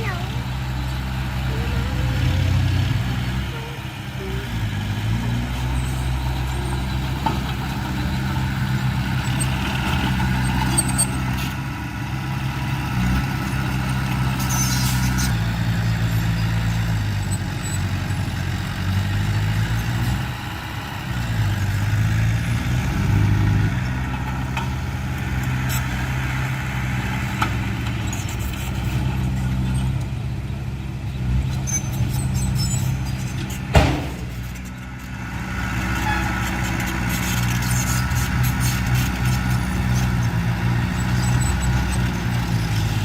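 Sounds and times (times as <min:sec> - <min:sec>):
heavy diesel engine revving: 0:00.0 - 0:43.0.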